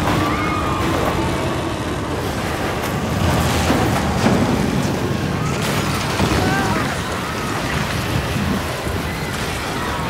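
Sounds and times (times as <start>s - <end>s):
low rumbling street ambience: 0.0s - 10.0s.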